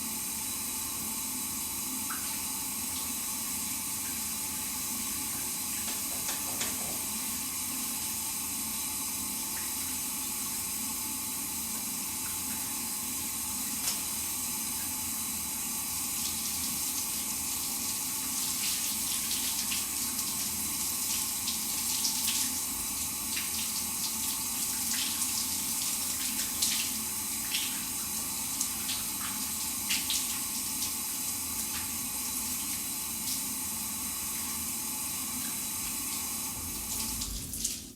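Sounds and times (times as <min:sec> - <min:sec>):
shower water hissing: 0:01.4 - 0:37.9.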